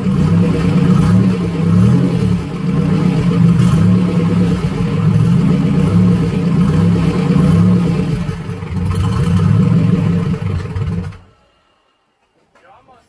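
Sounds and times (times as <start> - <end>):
engine running unsteady idle: 0.0 - 11.4.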